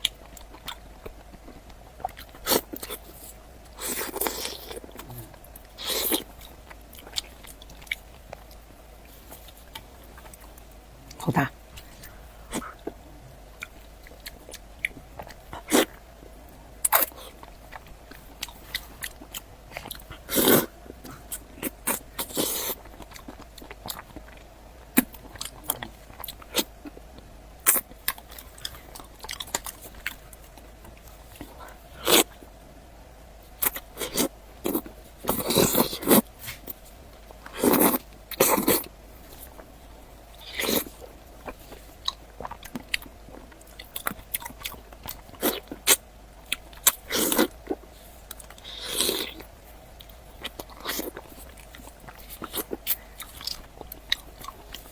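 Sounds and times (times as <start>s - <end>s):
person chewing food: 0.0s - 32.6s, 33.5s - 54.9s.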